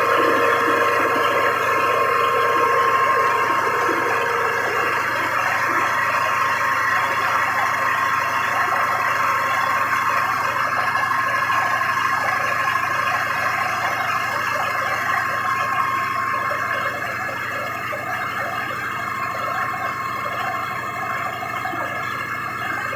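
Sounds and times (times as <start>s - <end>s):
diesel generator running: 0.0s - 22.9s
high whine: 0.0s - 22.9s.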